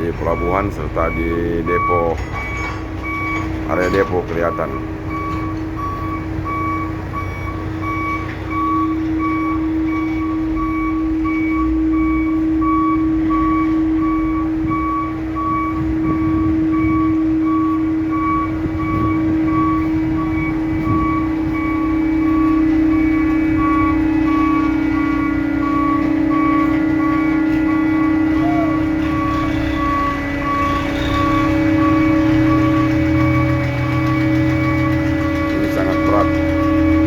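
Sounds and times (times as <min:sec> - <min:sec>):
heavy machinery engine rumble: 0:00.0 - 0:37.0
warning beeper: 0:00.0 - 0:37.0.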